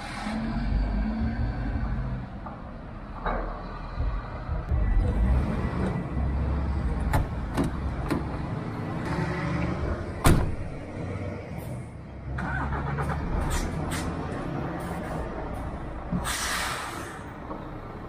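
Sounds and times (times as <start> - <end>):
diesel truck engine running: 0.0 - 16.2.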